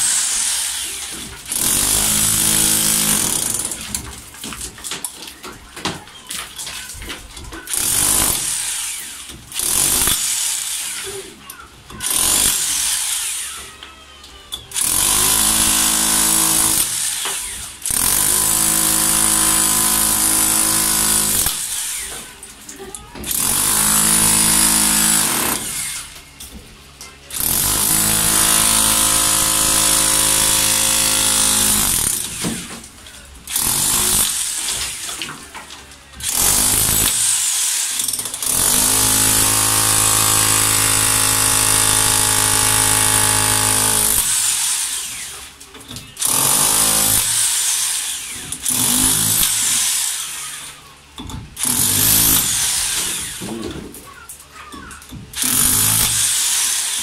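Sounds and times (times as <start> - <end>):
demolition hammer chiselling concrete: 0.0 - 13.6, 14.7 - 22.4, 23.1 - 26.2, 27.3 - 57.0.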